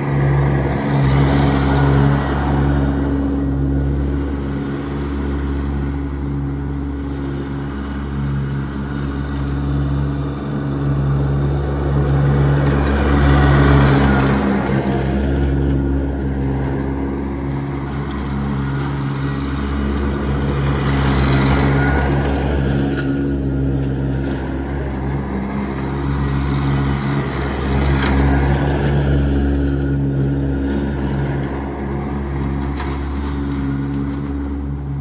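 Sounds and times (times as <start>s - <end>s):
tractor engine mowing grass: 0.0s - 35.0s.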